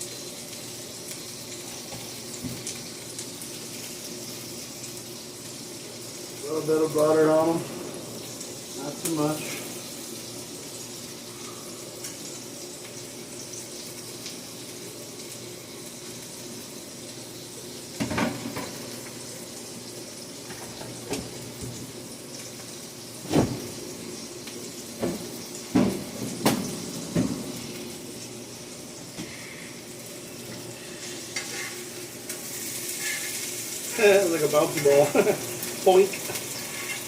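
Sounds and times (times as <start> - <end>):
burgers sizzling on a griddle: 0.0 - 37.0.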